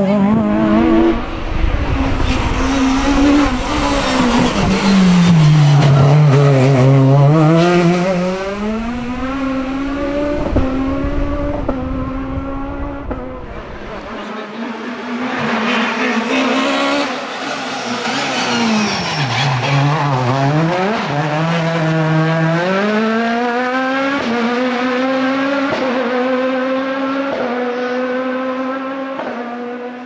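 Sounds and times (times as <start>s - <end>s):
racing car engine: 0.0s - 30.0s.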